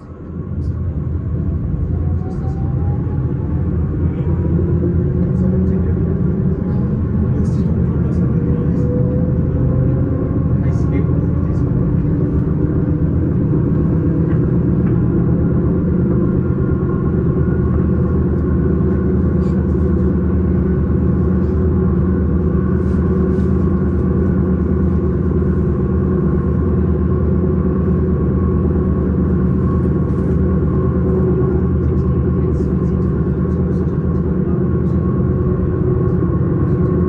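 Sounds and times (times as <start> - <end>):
electric train rumbling: 0.0 - 37.0.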